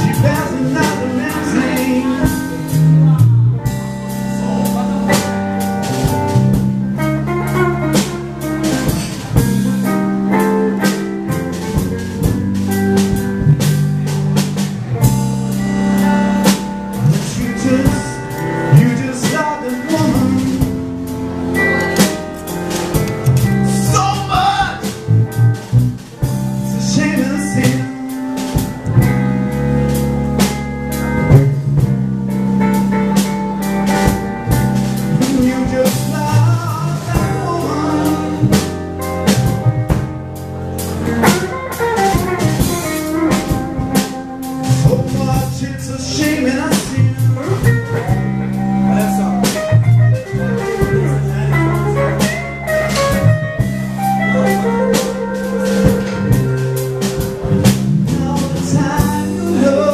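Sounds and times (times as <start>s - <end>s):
drum kit with cymbals: 0.0s - 59.9s
electric bass: 0.0s - 59.9s
electric guitar: 0.0s - 59.9s.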